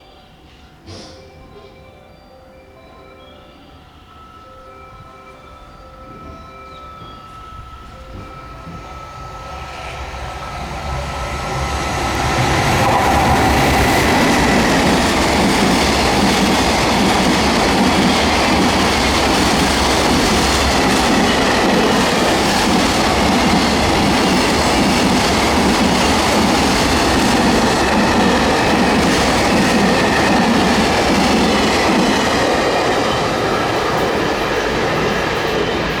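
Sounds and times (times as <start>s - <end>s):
freight train passing: 0.0s - 36.0s.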